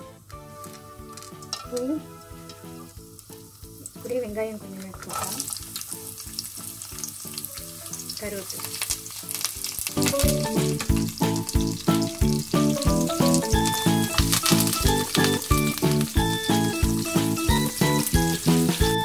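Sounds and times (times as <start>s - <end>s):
background music with steady beat: 0.0s - 8.4s, 9.4s - 19.0s
shallots sizzling in hot oil: 0.0s - 19.0s.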